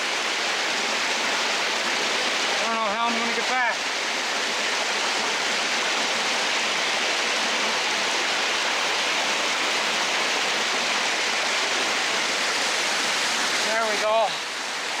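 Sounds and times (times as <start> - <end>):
brook water tumbling over rocks: 0.0 - 15.0
waterfall rushing: 0.0 - 15.0.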